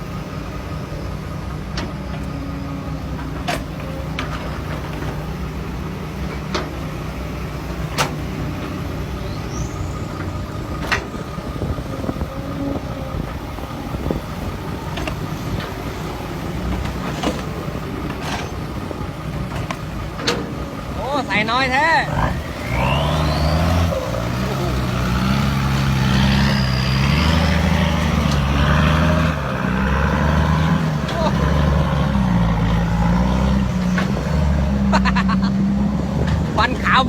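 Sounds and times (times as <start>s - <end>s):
diesel truck engine droning: 0.0s - 37.0s.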